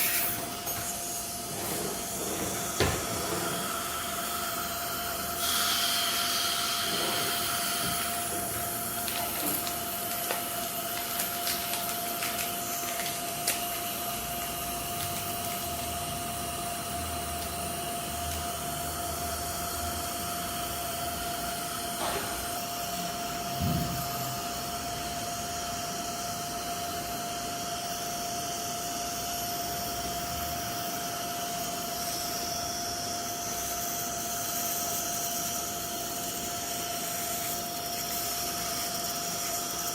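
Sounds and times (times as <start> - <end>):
dental equipment hiss and hum: 0.0 - 39.9.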